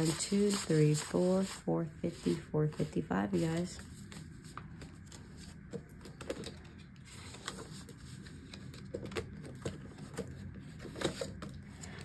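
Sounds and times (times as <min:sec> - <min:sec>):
soft paper rustles: 0:00.0 - 0:12.0.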